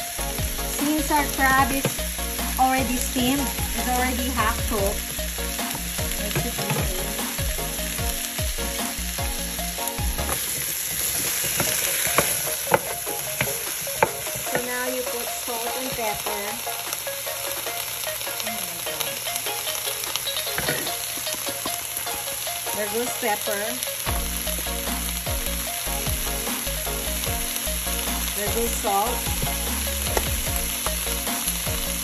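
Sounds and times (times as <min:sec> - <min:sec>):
vegetables sizzling in a pan: 0:00.1 - 0:32.0.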